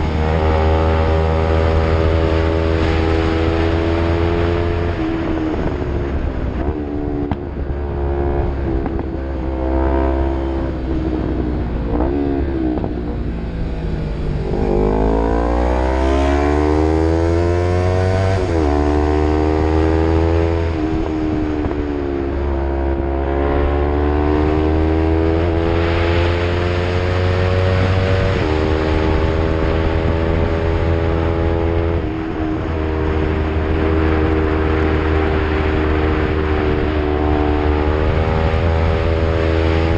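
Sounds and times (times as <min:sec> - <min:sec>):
motorcycle accelerating through gears: 0:00.0 - 0:39.9.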